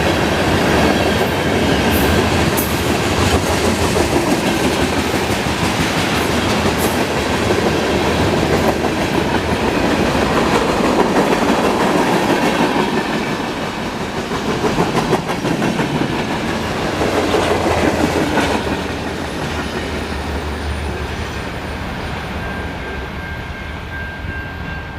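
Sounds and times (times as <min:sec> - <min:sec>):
freight train rolling past: 0:00.0 - 0:24.9.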